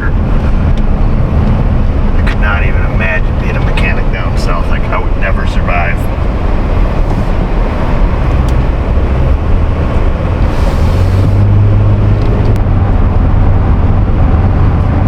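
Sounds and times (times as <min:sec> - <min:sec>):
road and engine rumble in car cabin: 0:00.0 - 0:15.0.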